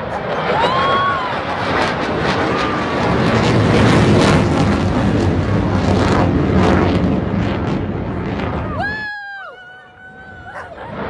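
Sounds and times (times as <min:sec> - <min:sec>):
loud ragged jet noise: 0:00.0 - 0:11.0.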